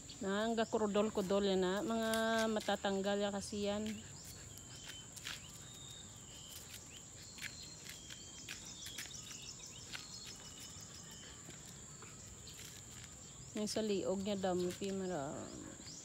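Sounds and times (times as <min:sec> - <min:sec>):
bird chirps: 0:00.0 - 0:16.0
insects trilling: 0:00.0 - 0:16.0.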